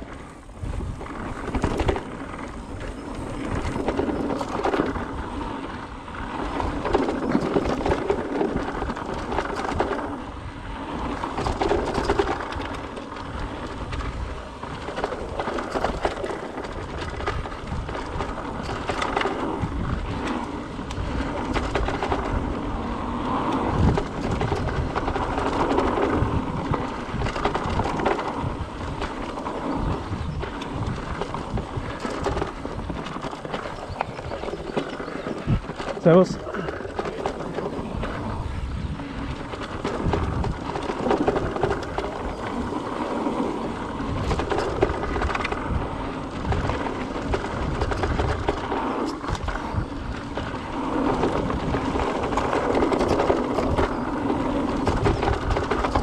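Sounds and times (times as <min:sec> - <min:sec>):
bike rattling over bumps: 0:00.0 - 0:56.0
bike tyres rolling on dirt: 0:00.0 - 0:56.0.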